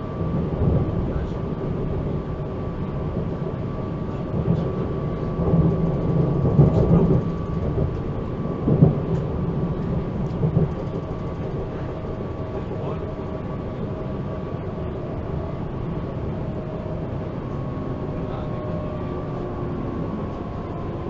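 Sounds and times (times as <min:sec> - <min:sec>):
train running gear rumble: 0:00.0 - 0:21.0.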